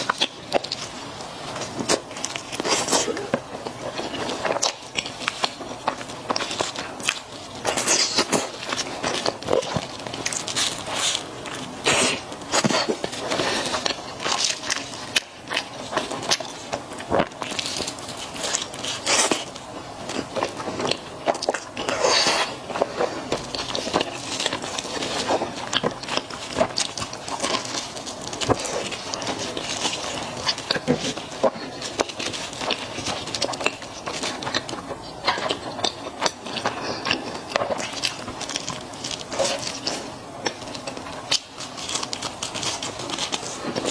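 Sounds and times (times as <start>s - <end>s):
biting and chewing mouth sounds: 0.0s - 43.9s.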